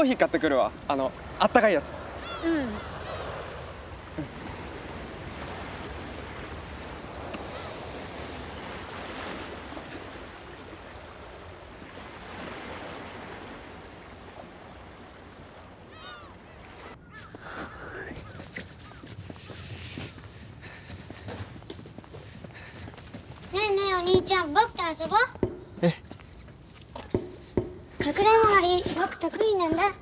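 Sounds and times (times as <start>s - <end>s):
sea waves washing on shore: 0.0s - 25.6s
wind: 0.0s - 30.0s.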